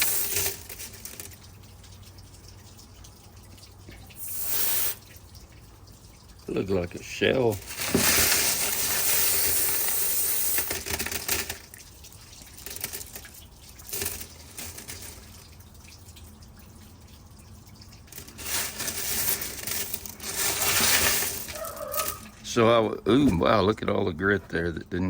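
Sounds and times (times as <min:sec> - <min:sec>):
tap water running into sink: 0:00.0 - 0:23.7.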